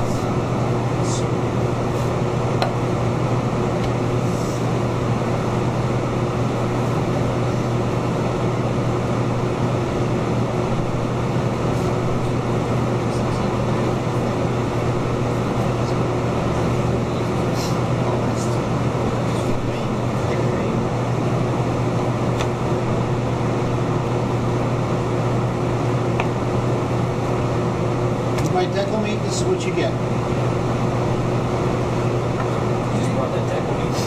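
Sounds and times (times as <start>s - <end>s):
ventilation noise: 0.0s - 34.0s.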